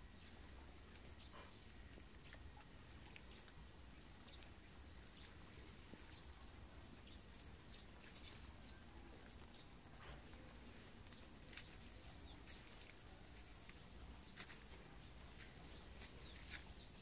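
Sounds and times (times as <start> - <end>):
faint outdoor hiss: 0.0 - 17.0
small clicks and ticks: 0.1 - 16.9.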